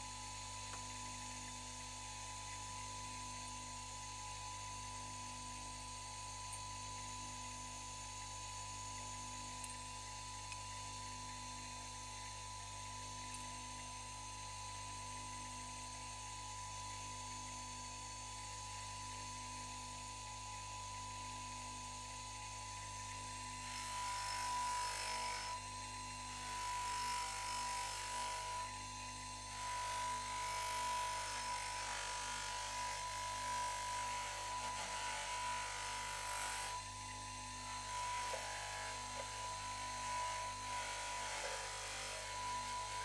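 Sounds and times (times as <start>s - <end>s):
bench grinder hum and whine: 0.0s - 43.0s.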